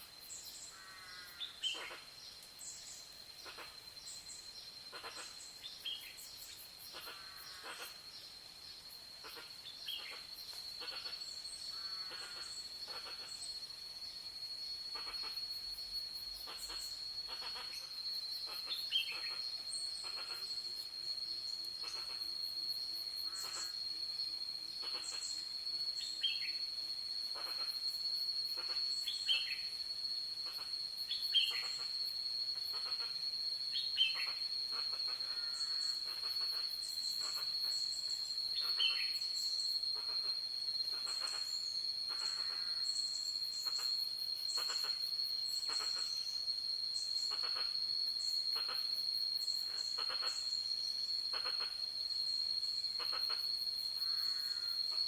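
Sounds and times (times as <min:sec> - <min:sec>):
insect high-pitched drone: 0:00.0 - 0:55.0.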